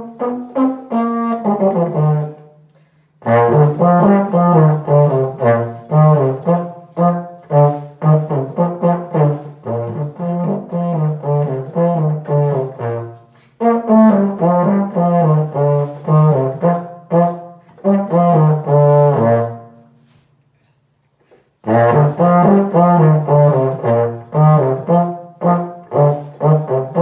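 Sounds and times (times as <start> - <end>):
euphonium playing lively melody: 3.2 - 19.8, 21.7 - 27.0.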